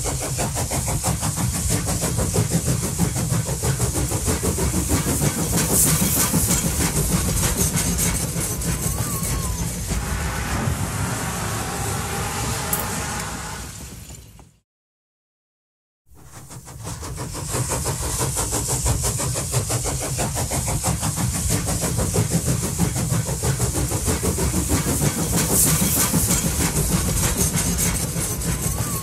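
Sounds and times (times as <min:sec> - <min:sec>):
train running: 0:00.0 - 0:14.6, 0:16.1 - 0:29.0.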